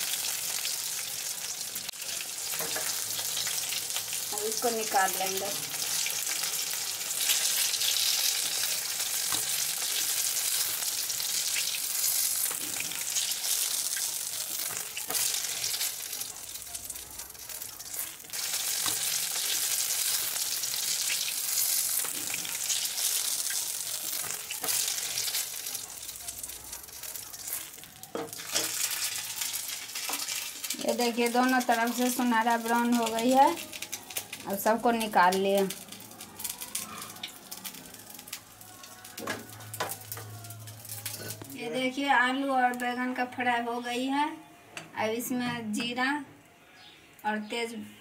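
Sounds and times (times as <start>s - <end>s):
eggplant sizzling in hot oil: 0.0s - 41.5s.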